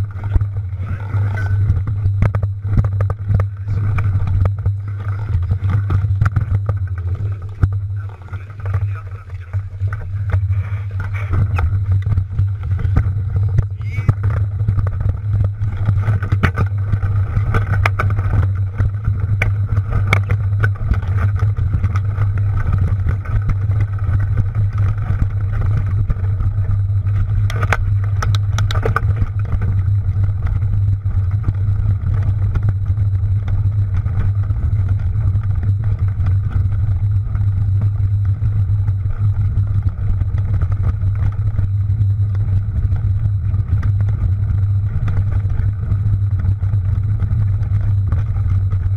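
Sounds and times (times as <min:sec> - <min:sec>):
bike clicks and rattles: 0:00.0 - 0:48.9
bike riding rumble: 0:00.0 - 0:48.9.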